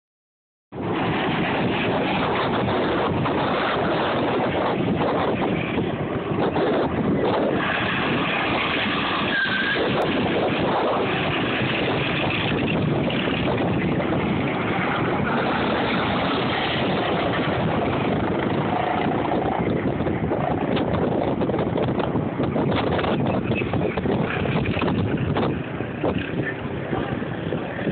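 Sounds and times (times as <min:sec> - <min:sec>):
wind noise on microphone: 0:00.7 - 0:27.9
go-karts running: 0:00.9 - 0:27.9.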